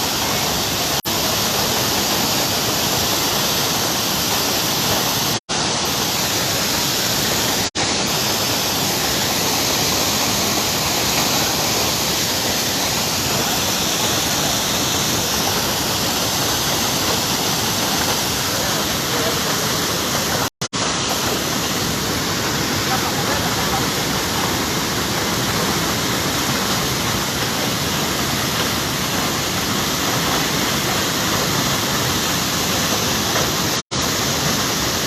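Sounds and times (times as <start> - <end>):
waterfall pouring: 0.0 - 35.0.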